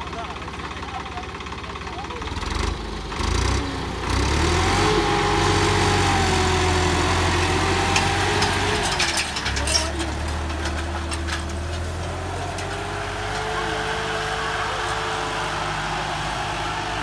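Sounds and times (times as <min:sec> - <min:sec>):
tractor diesel engine revving: 0:00.0 - 0:17.0.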